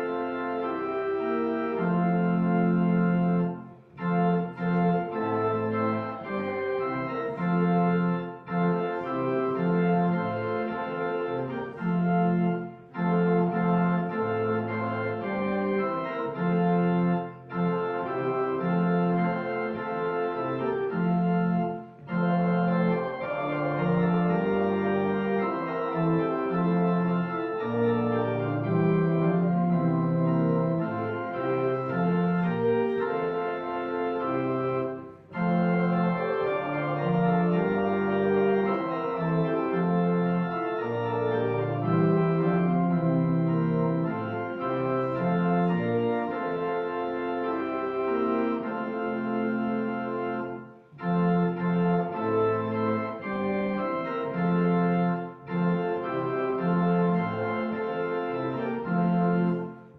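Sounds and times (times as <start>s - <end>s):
organ playing hymn chords: 0.0s - 59.9s.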